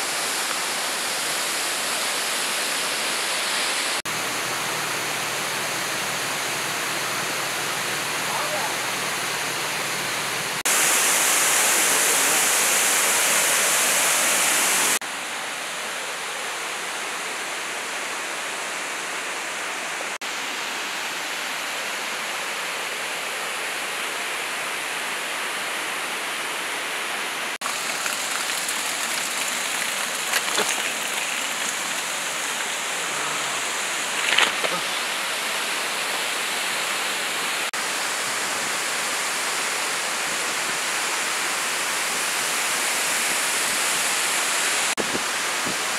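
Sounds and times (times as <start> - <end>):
waterfall rushing: 0.0 - 20.2, 22.9 - 45.9.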